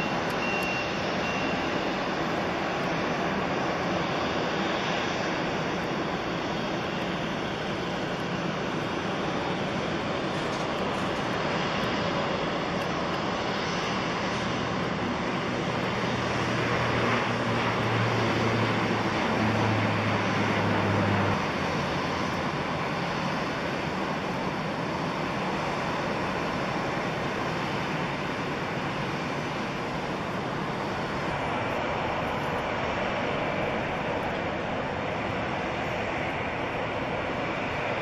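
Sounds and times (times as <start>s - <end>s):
jet engine rushing: 0.0s - 38.0s.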